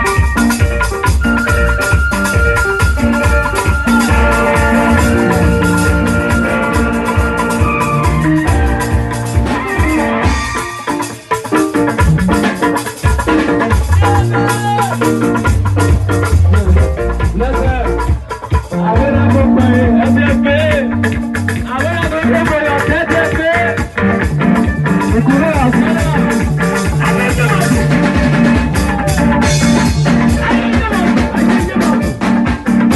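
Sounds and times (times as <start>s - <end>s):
drum beat: 0.0s - 32.9s
plucked guitar-like notes: 0.0s - 32.9s.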